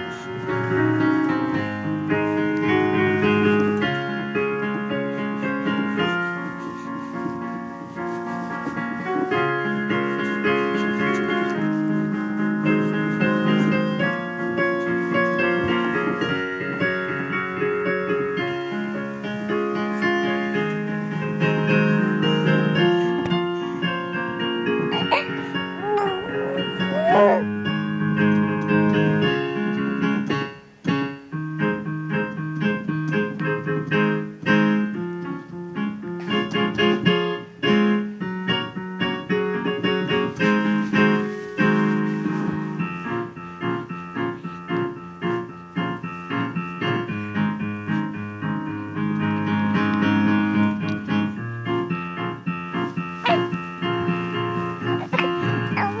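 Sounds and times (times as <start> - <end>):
electronic keyboard piano: 0.0 - 56.0.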